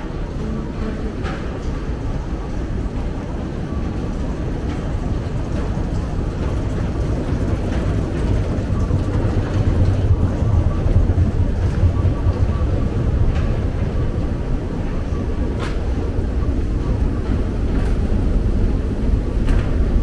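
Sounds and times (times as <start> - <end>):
escalator machinery rumble: 0.0 - 20.0.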